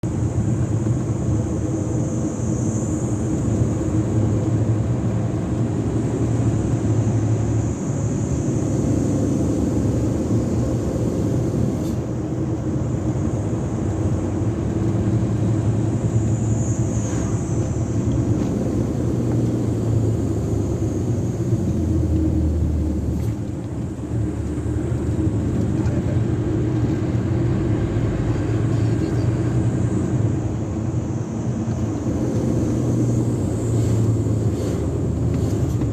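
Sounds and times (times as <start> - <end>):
diesel truck engine droning: 0.0 - 35.9.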